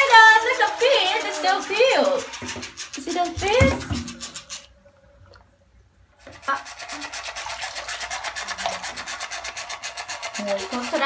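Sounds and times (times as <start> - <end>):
wind-up toy rattling: 0.0 - 4.7, 6.4 - 11.0.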